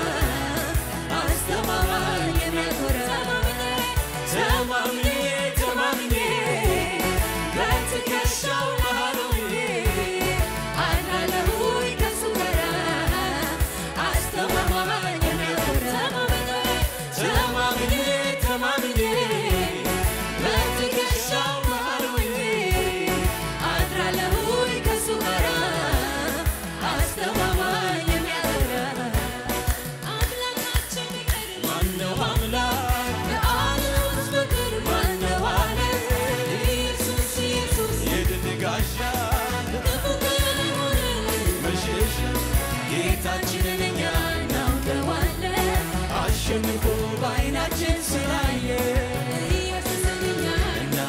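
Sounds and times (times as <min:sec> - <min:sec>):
band with steady drum beat: 0:00.0 - 0:51.0
choir singing: 0:00.0 - 0:51.0
woman singing into microphone: 0:00.0 - 0:51.0.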